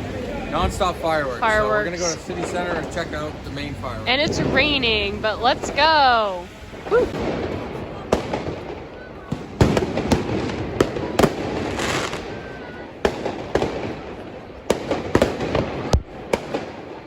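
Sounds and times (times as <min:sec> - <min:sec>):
firecrackers banging: 0:00.0 - 0:17.0
fireworks crackling: 0:00.0 - 0:17.0.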